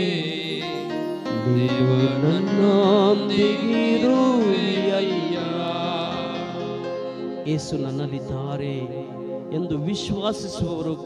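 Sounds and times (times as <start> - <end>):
keyboard playing bass and chords: 0.0 - 11.0
man singing into a microphone: 0.0 - 11.0.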